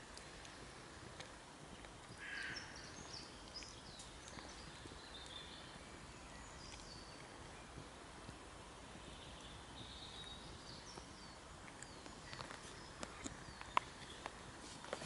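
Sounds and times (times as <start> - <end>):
birds chirping and trilling: 1.6 - 7.8, 8.5 - 15.0.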